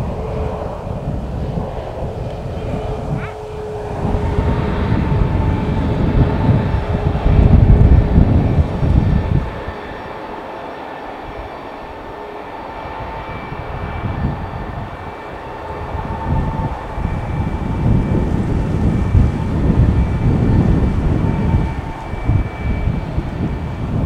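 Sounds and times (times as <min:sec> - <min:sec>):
jet engines rumbling: 0:00.0 - 0:24.0
thin steady whine: 0:00.0 - 0:24.0.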